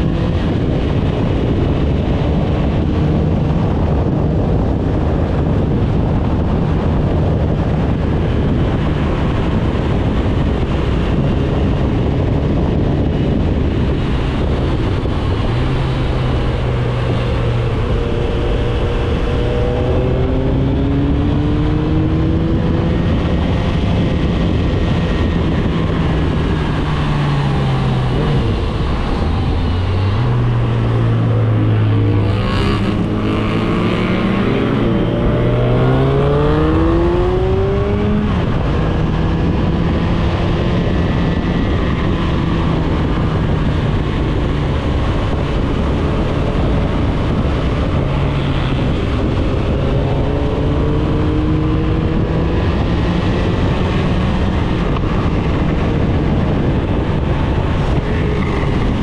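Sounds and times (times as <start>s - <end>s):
motorcycle engine: 0.0s - 59.0s
wind rushing over microphone: 0.0s - 59.0s.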